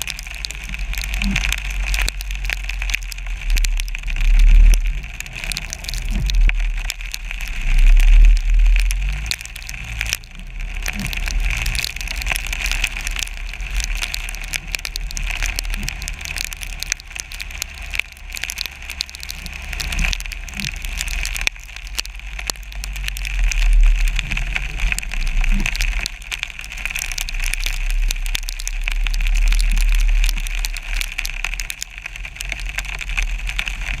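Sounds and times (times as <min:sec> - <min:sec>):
freezing rain ticking on camera: 0:00.0 - 0:34.0
road noise from moving car: 0:00.0 - 0:34.0
wind rumble: 0:00.0 - 0:34.0.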